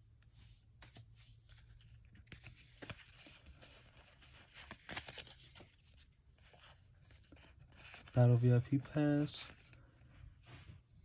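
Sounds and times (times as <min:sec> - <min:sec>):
trading cards rustling: 0:00.8 - 0:10.0.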